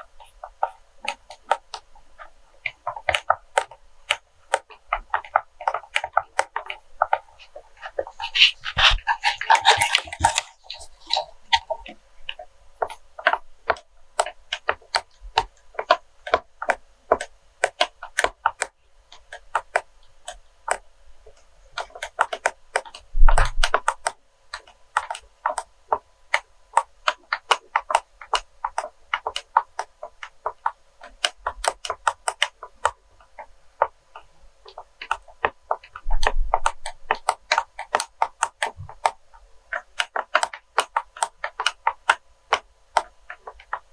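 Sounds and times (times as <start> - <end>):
tapping on wax melts: 0.0 - 43.9.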